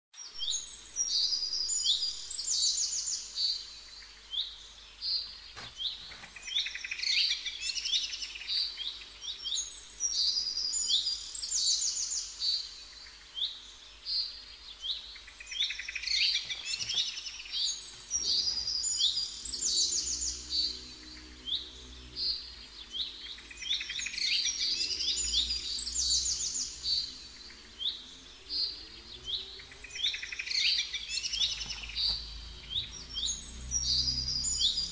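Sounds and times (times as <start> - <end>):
songbird chirps and trills: 0.2 - 34.9.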